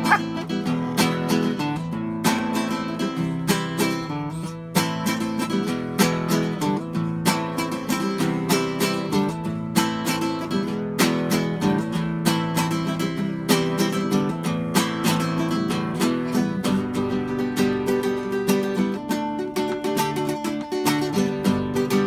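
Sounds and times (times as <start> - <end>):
classical guitar strummed: 0.0 - 22.0.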